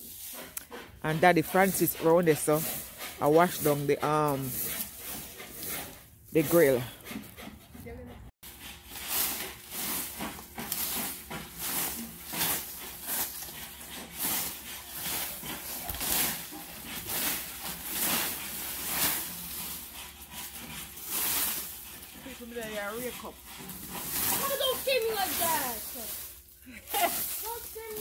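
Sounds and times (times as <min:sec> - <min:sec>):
rake scraping dry leaves: 0:00.0 - 0:07.1, 0:08.4 - 0:28.0.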